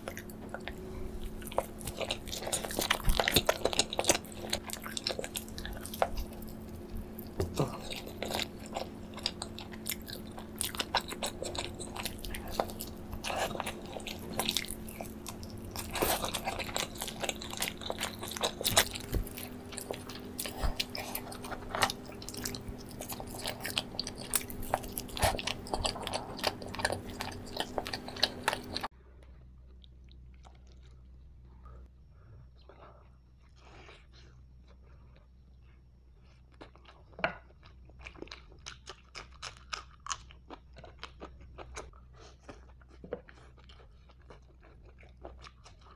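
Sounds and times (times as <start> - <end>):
chewing with crisp crunches: 0.0 - 31.9, 32.5 - 45.9.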